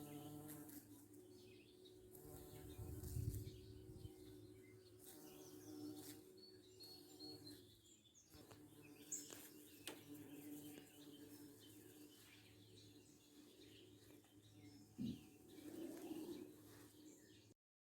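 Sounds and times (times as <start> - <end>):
bird chirps: 1.3 - 17.5.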